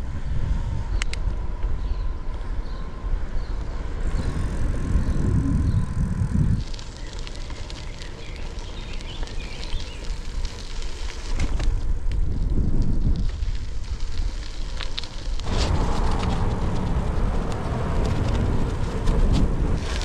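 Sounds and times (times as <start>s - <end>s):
bike tyres rolling over gravel: 0.0s - 20.0s
wind buffeting microphone: 0.0s - 20.0s.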